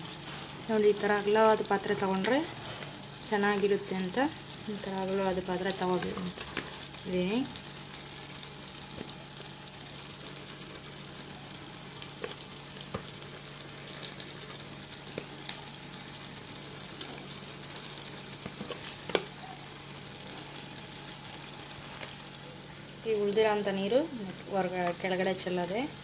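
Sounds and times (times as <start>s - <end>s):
fish frying in hot oil: 0.0s - 26.0s.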